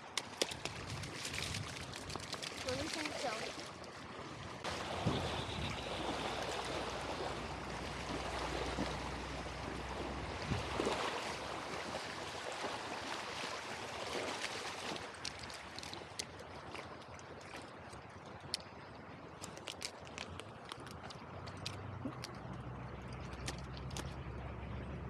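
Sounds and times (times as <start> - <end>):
creek water rushing over gravel: 0.0 - 24.4.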